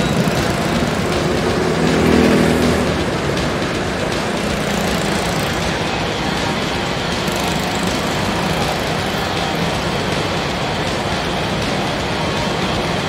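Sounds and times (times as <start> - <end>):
go-kart engines running: 0.0 - 13.0.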